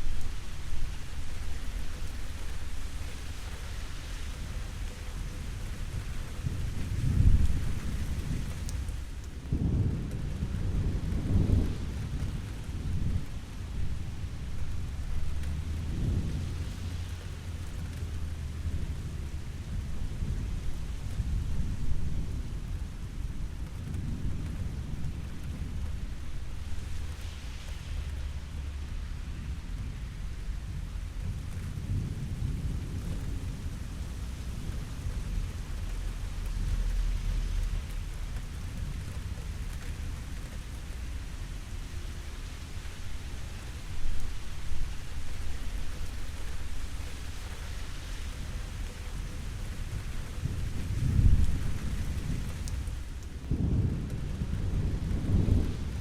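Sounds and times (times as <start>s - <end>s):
steady rain: 0.0s - 56.0s
thunder rumbling: 5.4s - 56.0s.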